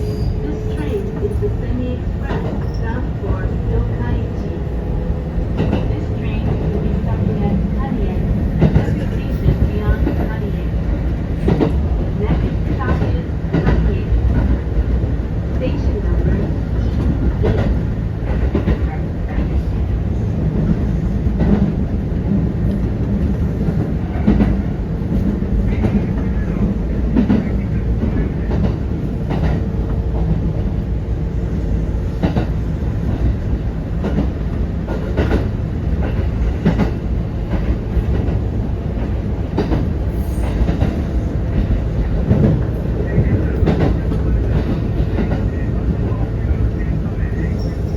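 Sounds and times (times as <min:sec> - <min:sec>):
electric train rumble: 0:00.0 - 0:47.9.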